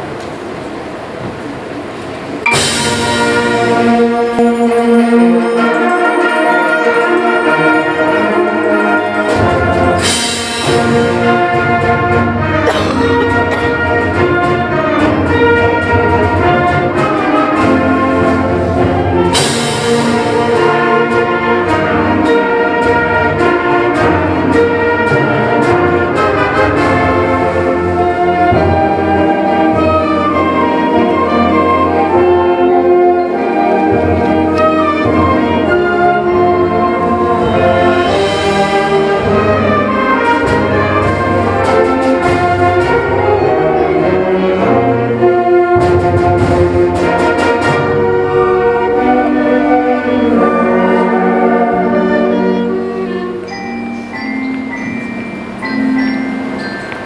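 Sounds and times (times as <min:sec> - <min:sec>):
concert band playing: 0:02.4 - 0:57.0.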